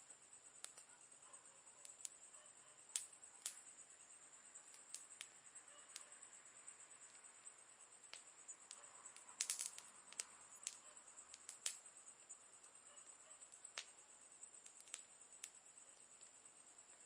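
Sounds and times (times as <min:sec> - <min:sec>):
campfire crackling: 0:00.0 - 0:17.0
high-pitched hiss: 0:00.0 - 0:17.0.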